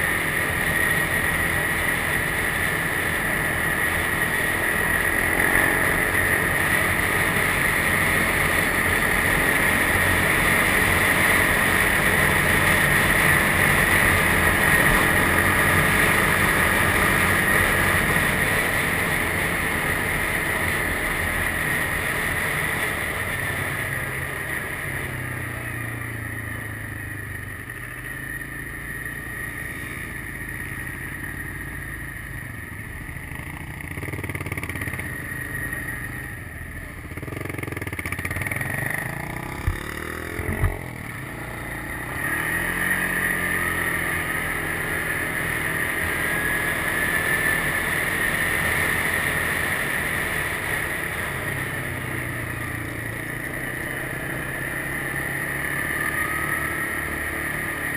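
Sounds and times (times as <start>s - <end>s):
quad bike engine running: 0.0s - 57.9s
steady high whine: 0.0s - 57.9s.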